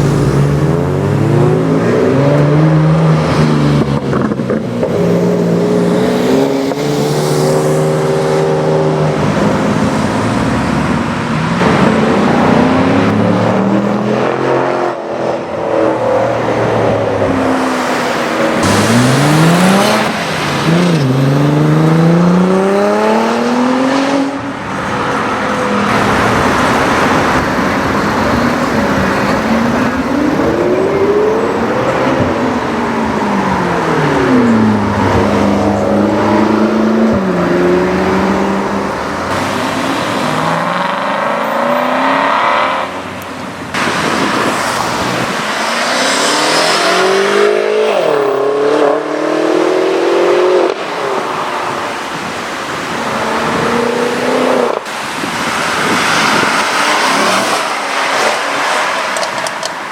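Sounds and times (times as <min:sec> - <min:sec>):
car engines accelerating hard: 0:00.0 - 0:59.9.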